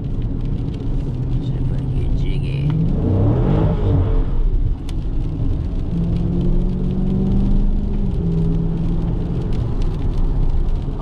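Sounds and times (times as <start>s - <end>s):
tyre and road rumble: 0.0s - 11.0s.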